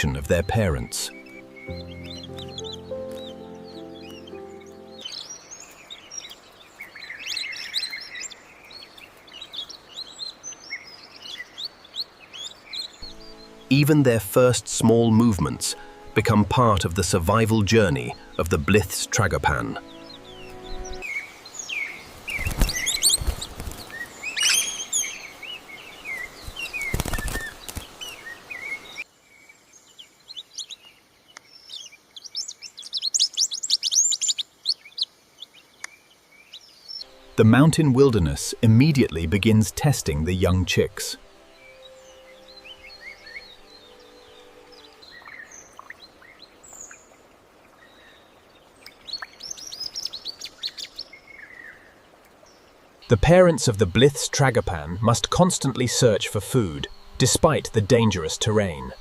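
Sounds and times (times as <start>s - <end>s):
birds calling and chirping: 0.0s - 59.0s
faint background hiss: 0.0s - 59.0s
forest background noise: 0.0s - 59.0s.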